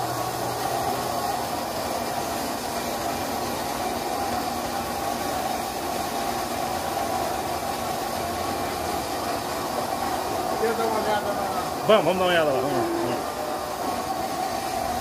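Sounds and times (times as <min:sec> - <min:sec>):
milking machine vacuum drone: 0:00.0 - 0:15.0.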